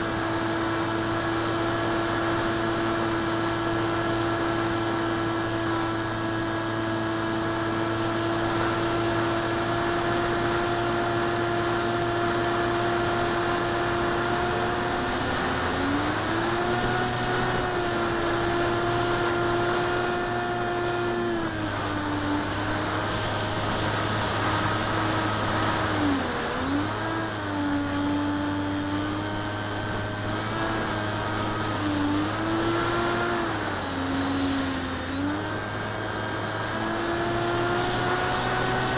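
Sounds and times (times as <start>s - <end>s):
model plane motor whining: 0.0s - 38.9s.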